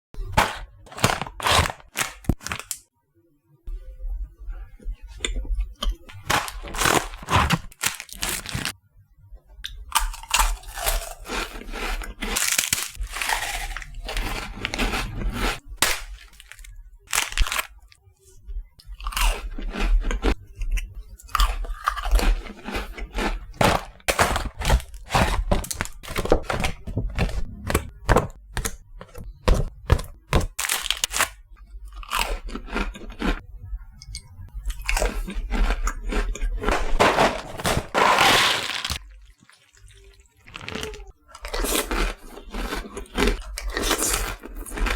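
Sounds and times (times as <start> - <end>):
cookies being crunched: 0.2 - 2.9, 6.1 - 8.7, 9.7 - 18.0, 18.8 - 33.4, 34.6 - 44.9.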